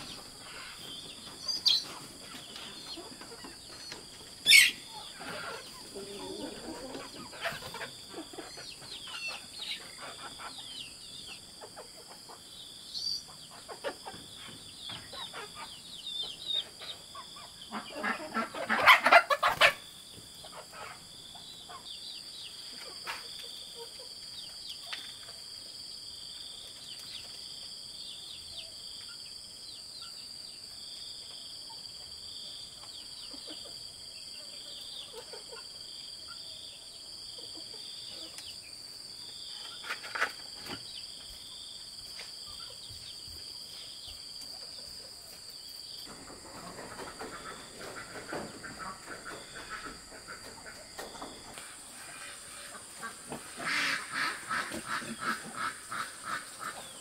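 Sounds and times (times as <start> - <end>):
chickens clucking: 0.0 - 25.6, 32.7 - 57.0.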